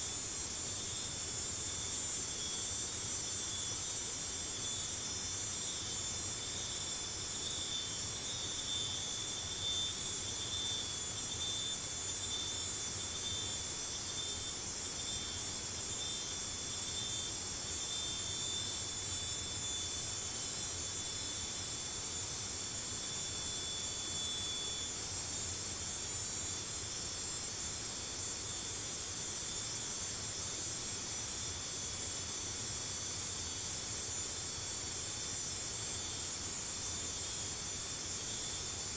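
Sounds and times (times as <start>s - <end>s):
thin steady insect tone: 0.0s - 38.9s
insects shrilling: 0.1s - 38.9s.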